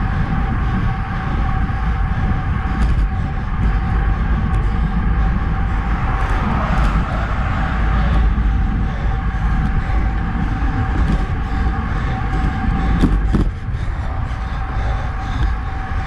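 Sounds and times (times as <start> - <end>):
thin steady whine: 0.0 - 16.0
wind buffeting microphone: 0.0 - 16.0
tyre rolling noise: 0.5 - 15.8.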